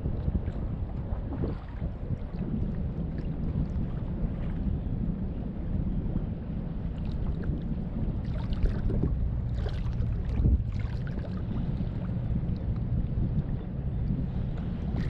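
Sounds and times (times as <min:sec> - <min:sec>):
water lapping against hull: 0:00.0 - 0:15.0
wind on microphone: 0:00.0 - 0:15.0.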